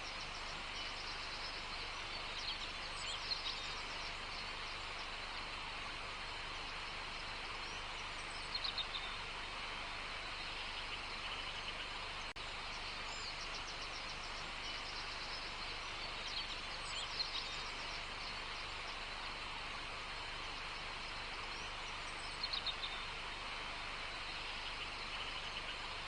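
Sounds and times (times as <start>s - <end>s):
small birds chirping: 0.0s - 26.0s
steady background hiss: 0.0s - 26.0s.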